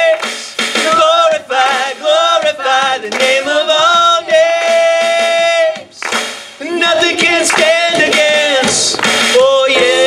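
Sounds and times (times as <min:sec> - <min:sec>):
live band music: 0:00.0 - 0:10.0
voices singing: 0:00.0 - 0:10.0.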